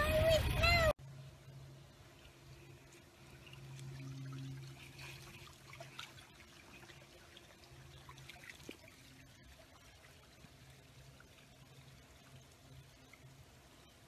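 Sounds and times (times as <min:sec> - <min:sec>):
faint trickling water: 0:00.0 - 0:14.0
low machine hum: 0:00.0 - 0:14.0
small splashes: 0:02.2 - 0:13.8.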